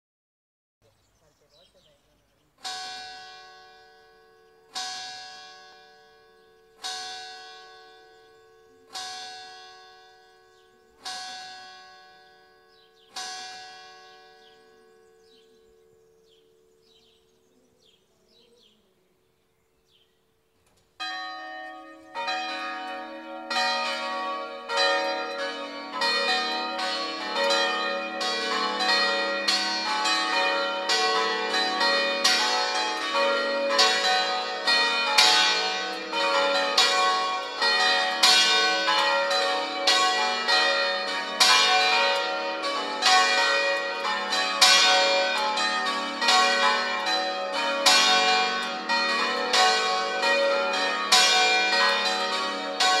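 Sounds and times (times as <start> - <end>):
church bells ringing: 2.6 - 17.3, 21.0 - 53.0.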